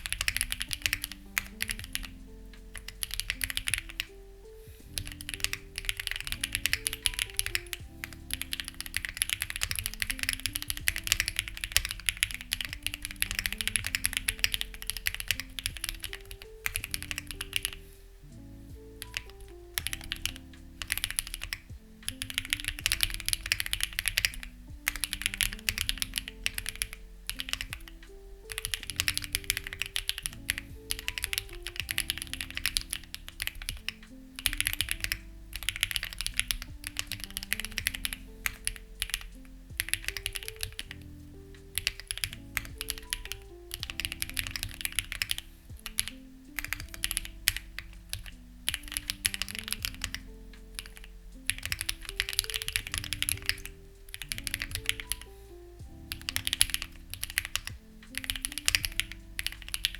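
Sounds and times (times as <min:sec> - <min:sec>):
mechanical keyboard typing: 0:00.0 - 0:04.2, 0:04.9 - 0:17.8, 0:18.8 - 0:59.9
soft background music: 0:00.0 - 0:59.9.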